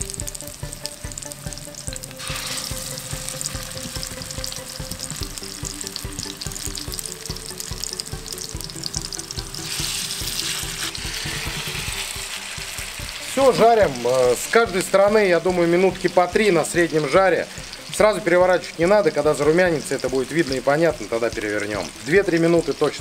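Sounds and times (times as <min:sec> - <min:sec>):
background music with steady beat: 0:00.0 - 0:23.0
fish sizzling in hot oil: 0:00.0 - 0:23.0.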